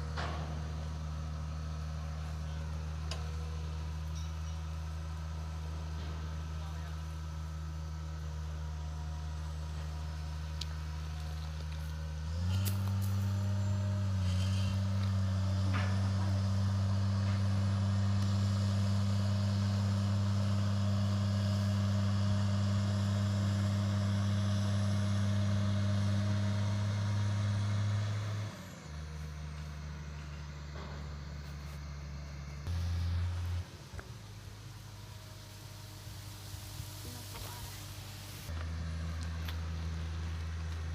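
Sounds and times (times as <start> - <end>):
diesel engine idling and revving: 0.0 - 40.9.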